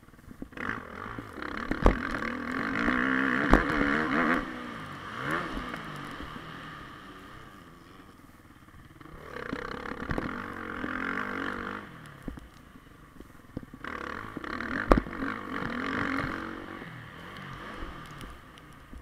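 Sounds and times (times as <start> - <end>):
dirt bike engine revving: 0.5 - 8.0, 8.8 - 12.6, 13.6 - 19.0.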